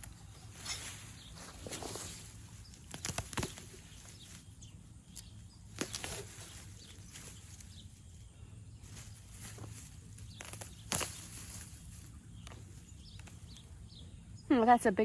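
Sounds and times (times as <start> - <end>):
faint rustling: 0.0 - 14.0.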